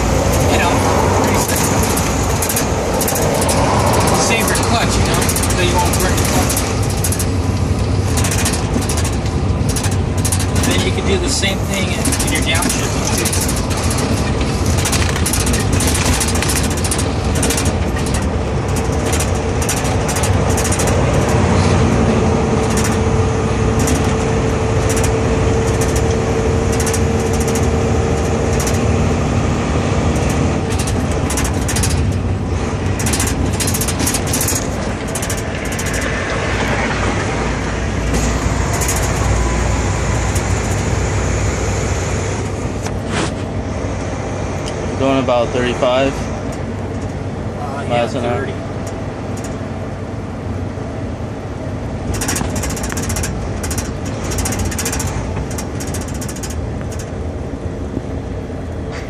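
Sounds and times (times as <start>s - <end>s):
rattles and clunks: 0.0s - 50.1s, 51.6s - 59.0s
diesel truck engine running: 0.0s - 59.0s.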